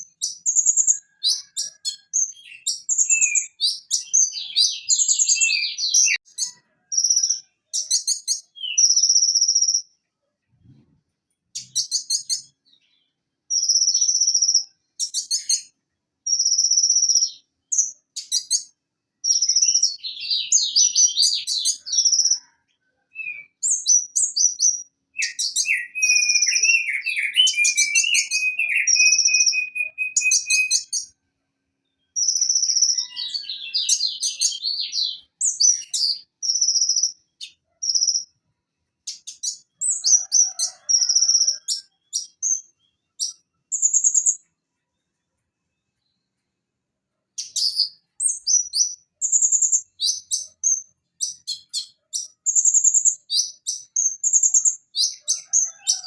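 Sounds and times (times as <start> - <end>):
sunbird chirping and trilling: 0.0 - 10.0, 11.5 - 31.2, 31.8 - 44.5, 47.4 - 56.0.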